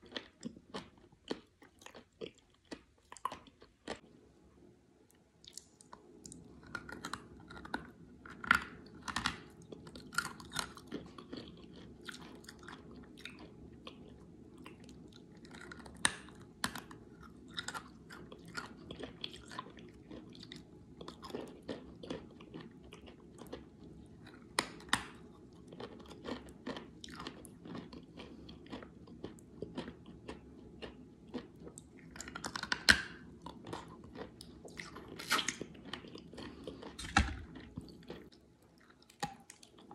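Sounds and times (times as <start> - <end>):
chewing and crunching clay: 0.0 - 4.1, 5.4 - 39.9.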